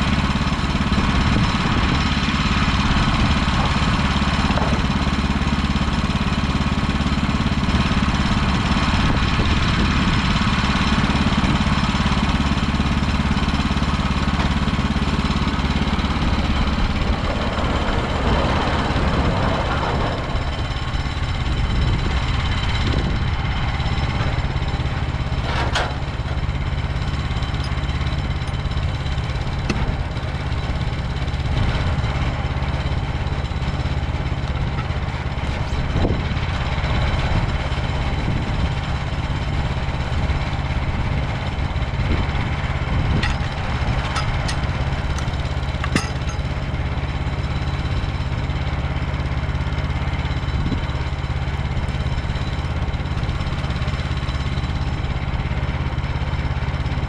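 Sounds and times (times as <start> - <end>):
gas engine running: 0.0 - 57.0.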